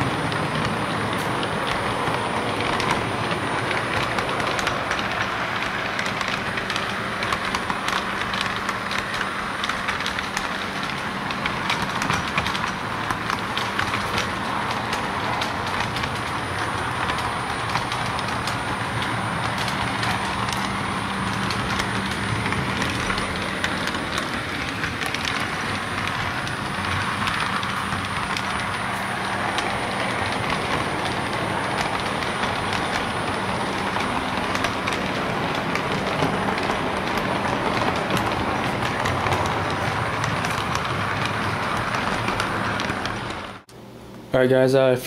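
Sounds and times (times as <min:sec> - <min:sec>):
model train motor hum: 0:00.0 - 0:43.6
light clicks of train wheels: 0:00.0 - 0:43.7.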